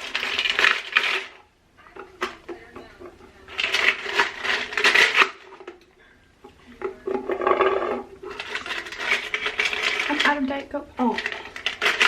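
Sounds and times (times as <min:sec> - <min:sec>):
objects rubbing and rustling: 0:00.0 - 0:12.0.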